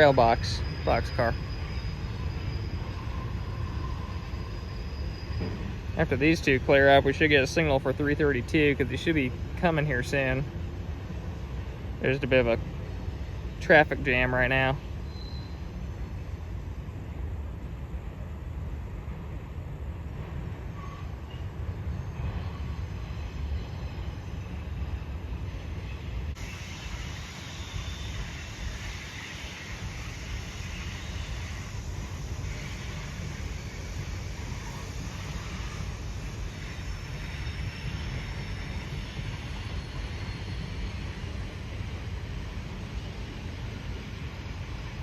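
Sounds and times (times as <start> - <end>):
train wheels rushing: 0.0 - 17.2, 20.1 - 45.0
freight train rumbling on rails: 0.0 - 45.0.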